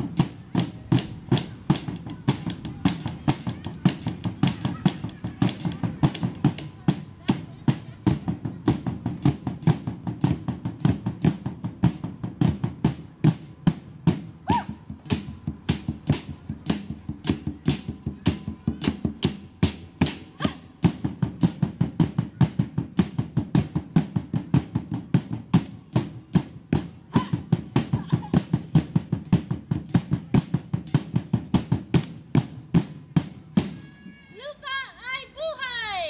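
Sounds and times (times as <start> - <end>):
drum beaten in steady rhythm: 0.0 - 35.2.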